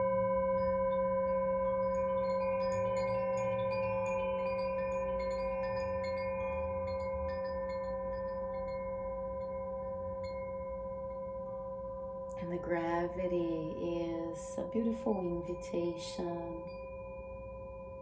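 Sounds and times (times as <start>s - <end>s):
singing bowl ringing: 0.0s - 18.0s
wind chime tinkling: 0.0s - 18.0s.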